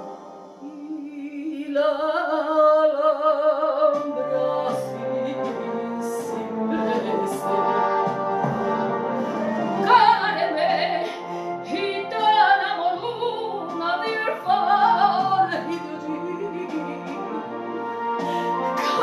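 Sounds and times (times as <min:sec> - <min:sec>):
woman singing with vibrato: 0:00.0 - 0:08.1, 0:09.6 - 0:19.0
instrumental accompaniment: 0:02.6 - 0:19.0.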